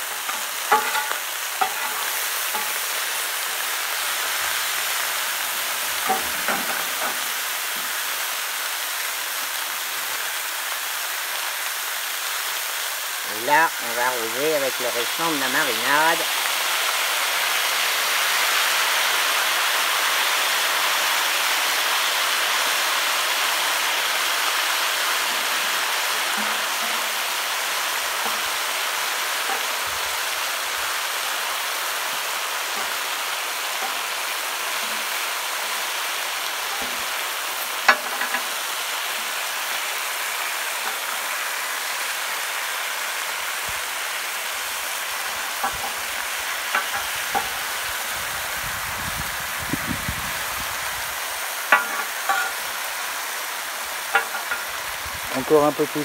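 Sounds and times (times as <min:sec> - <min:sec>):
marinade sizzling on hot plate: 0:00.0 - 0:56.0.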